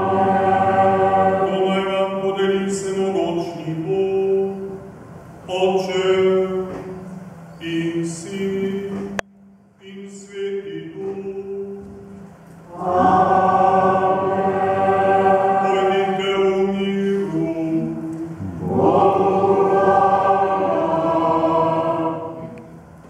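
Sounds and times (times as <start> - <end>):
church choir singing: 0.0 - 9.2, 9.8 - 22.9.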